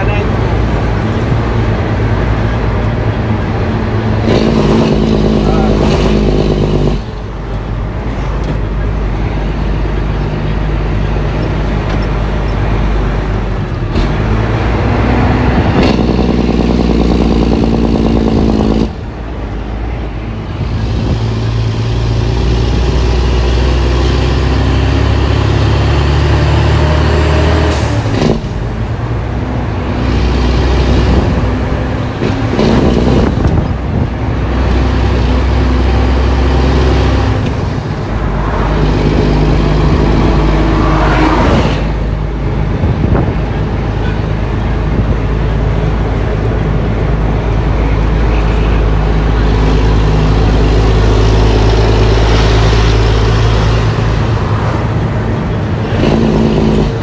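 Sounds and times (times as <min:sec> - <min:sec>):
diesel truck engine under load: 0:00.0 - 0:57.0.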